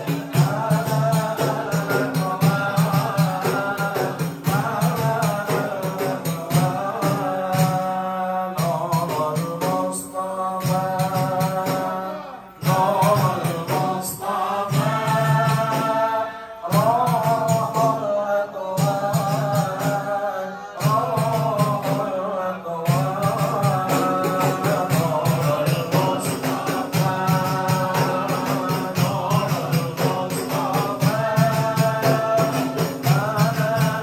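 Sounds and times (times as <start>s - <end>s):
men singing a devotional chant: 0.0s - 34.0s
steady percussion beat: 0.0s - 34.0s.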